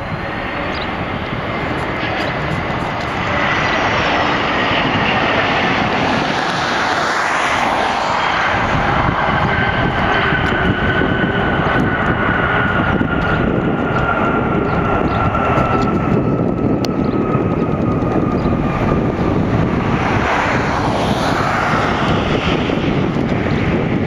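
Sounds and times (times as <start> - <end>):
jet engines roaring and whining: 0.0 - 24.0.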